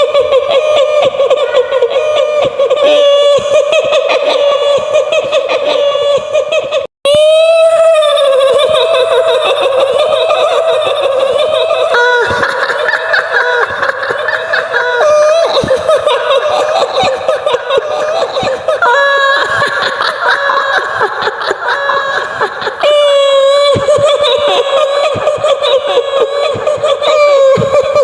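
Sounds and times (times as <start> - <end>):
woman's ghostly cackling laughter: 0.0 - 28.0.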